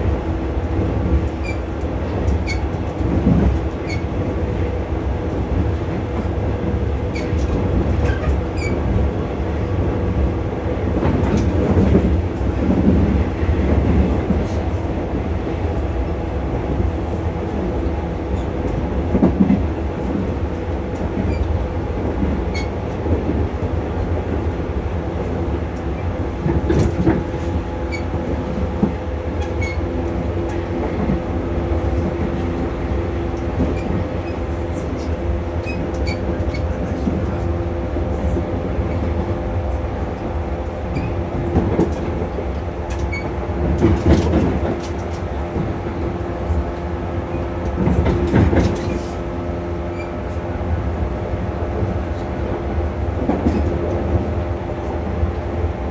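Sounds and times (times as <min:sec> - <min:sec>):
train interior rumble and hum: 0:00.0 - 0:55.9.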